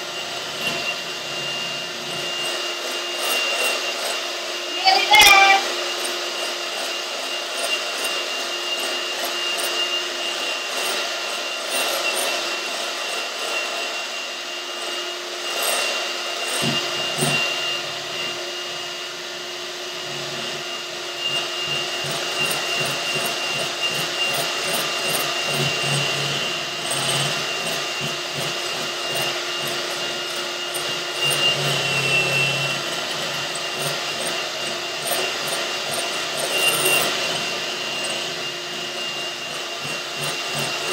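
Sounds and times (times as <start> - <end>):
electric hand mixer whining: 0.0 - 40.9.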